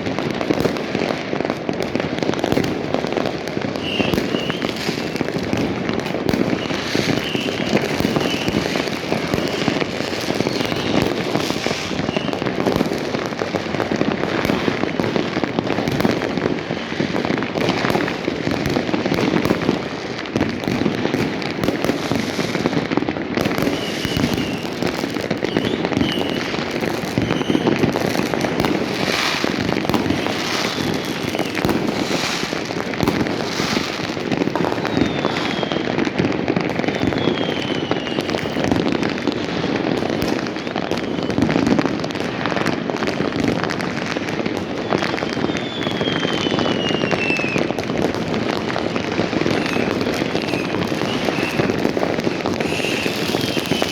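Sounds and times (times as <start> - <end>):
fireworks and firecrackers crackling: 0.0 - 53.9.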